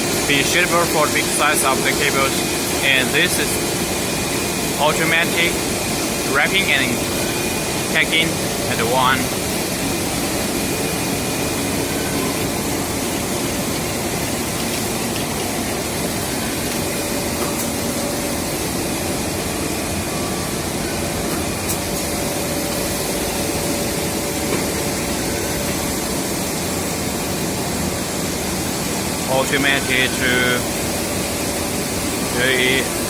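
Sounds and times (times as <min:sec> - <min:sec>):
machinery hiss and hum: 0:00.0 - 0:33.0.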